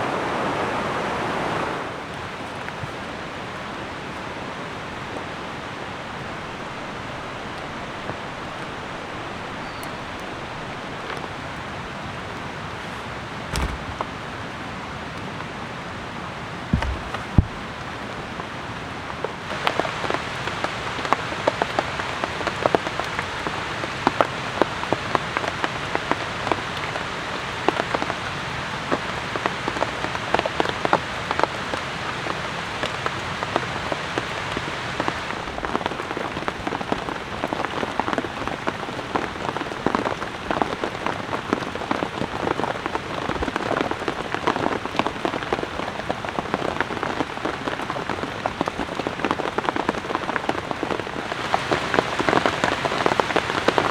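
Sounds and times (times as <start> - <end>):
steady rain falling: 0.0 - 53.9
raindrops ticking on a surface: 2.0 - 12.7, 13.5 - 53.9.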